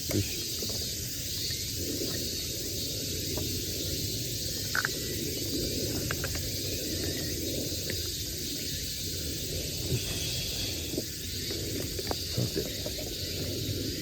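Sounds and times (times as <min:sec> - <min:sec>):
campfire hissing: 0:00.0 - 0:14.0.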